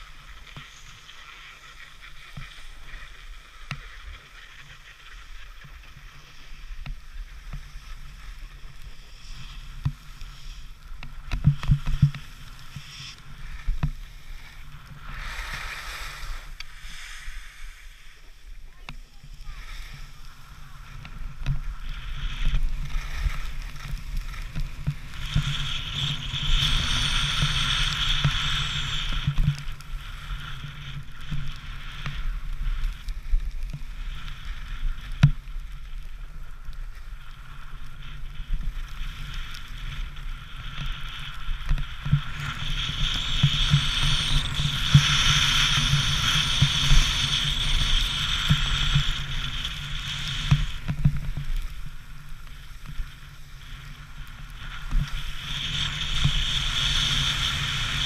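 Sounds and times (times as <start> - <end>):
skis sliding over packed snow: 0.0 - 58.0.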